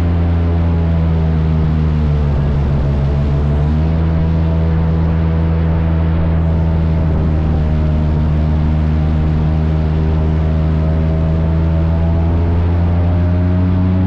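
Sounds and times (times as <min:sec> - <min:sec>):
airboat engine and propeller drone: 0:00.0 - 0:14.0.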